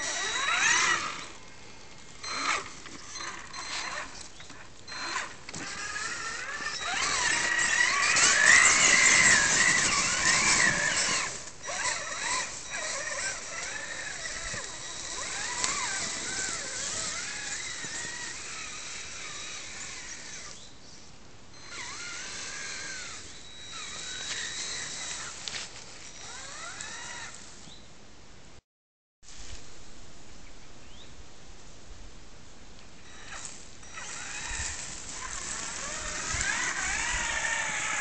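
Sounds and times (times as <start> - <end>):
rc truck electric motor whine: 0.0 - 20.8, 21.5 - 27.8, 33.0 - 38.0.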